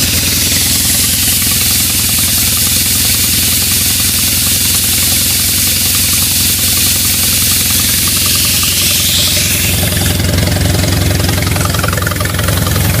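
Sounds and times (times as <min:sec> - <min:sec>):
high air hiss: 0:00.0 - 0:11.6
air compressor running: 0:00.0 - 0:13.0.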